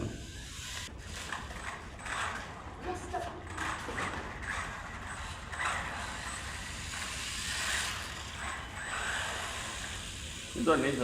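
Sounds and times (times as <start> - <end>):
rc car motor whine: 0.0 - 11.0.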